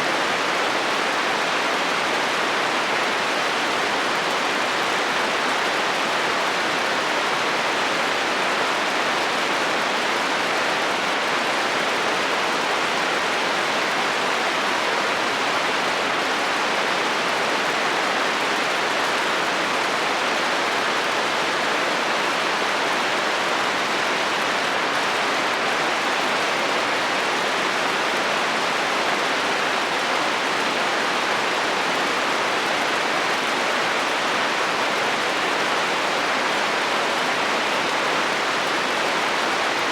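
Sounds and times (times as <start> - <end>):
heavy rain drumming on metal roof: 0.0 - 39.9.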